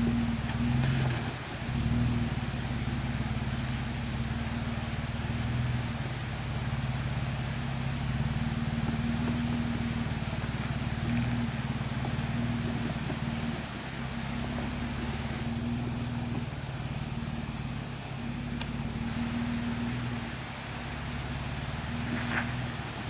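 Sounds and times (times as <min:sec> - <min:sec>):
vehicle engine running at low revs: 0:00.0 - 0:23.0.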